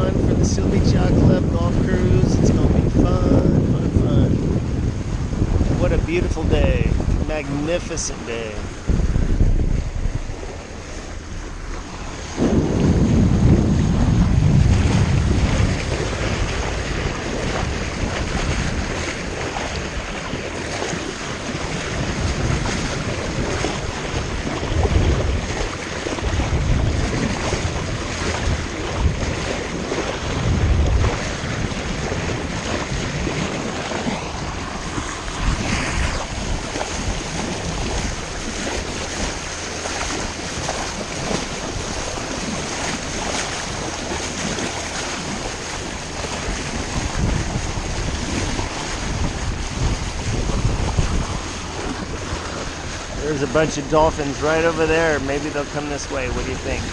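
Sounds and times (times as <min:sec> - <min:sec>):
water rushing along hull: 0:00.0 - 0:56.9
wind buffeting microphone: 0:00.0 - 0:56.9.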